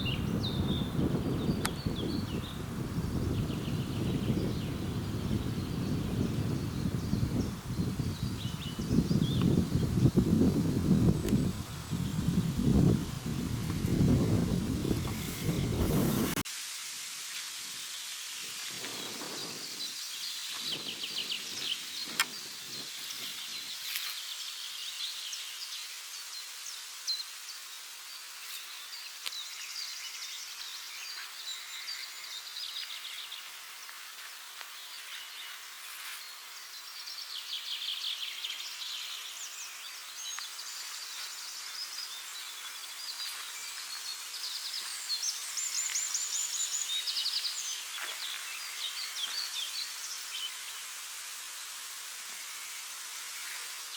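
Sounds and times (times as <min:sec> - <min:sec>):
forest birds singing: 0:00.0 - 0:16.3, 0:17.8 - 0:51.0.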